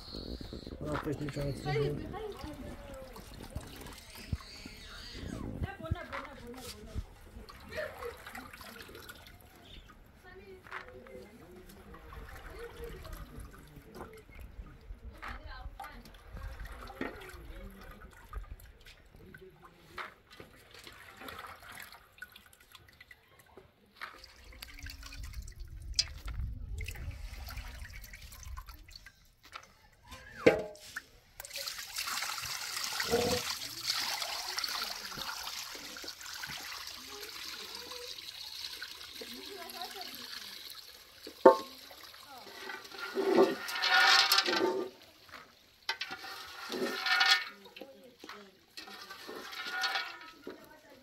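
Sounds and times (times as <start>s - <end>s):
stream of running water: 0.0s - 51.0s
water splashing in a metal pot: 0.0s - 51.0s.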